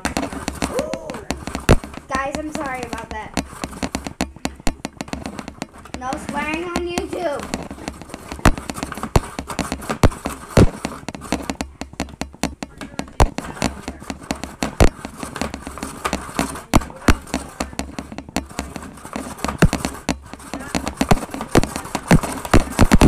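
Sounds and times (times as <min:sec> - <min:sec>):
toy snow cone maker grinding ice: 0:00.0 - 0:23.0.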